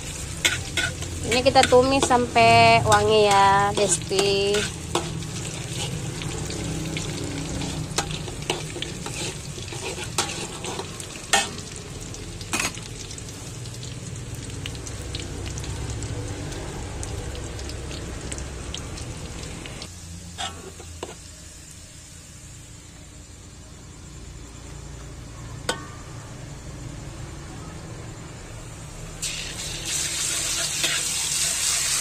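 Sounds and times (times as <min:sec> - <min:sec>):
shallots sizzling in oil: 0:00.0 - 0:32.0.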